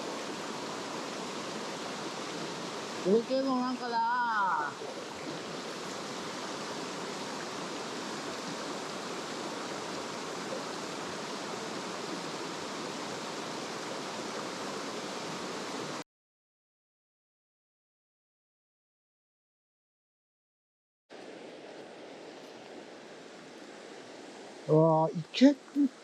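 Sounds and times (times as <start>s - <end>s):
mountain stream rushing: 0.0s - 16.0s, 21.1s - 26.0s.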